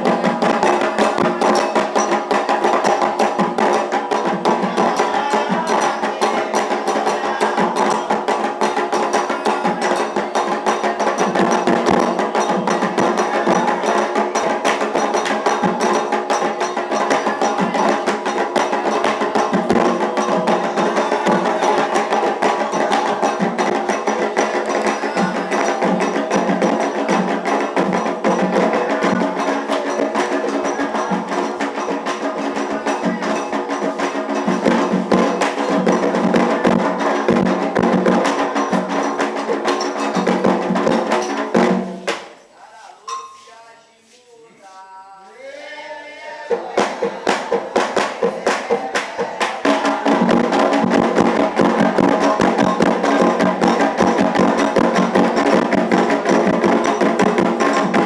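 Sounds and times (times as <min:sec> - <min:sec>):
voices singing a chant: 0:00.0 - 0:41.9, 0:42.5 - 0:58.0
fast hand percussion: 0:00.0 - 0:44.2, 0:45.6 - 0:58.0.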